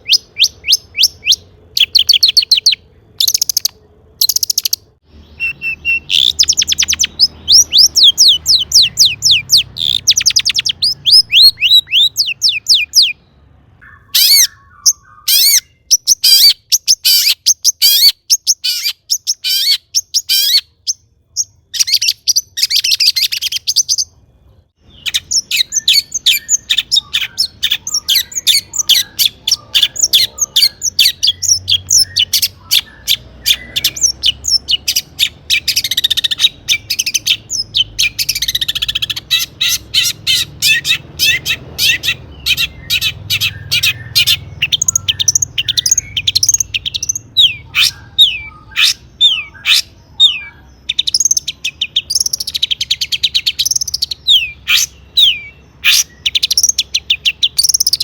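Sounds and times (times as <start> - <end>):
bird singing chattering song: 0.0 - 58.0.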